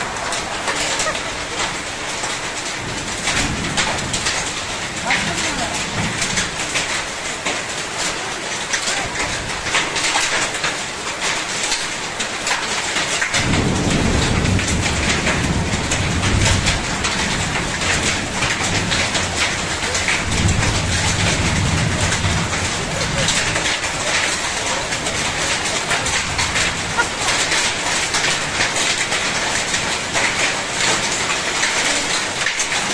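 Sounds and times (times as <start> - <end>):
heavy rain and hail: 0.0 - 32.9.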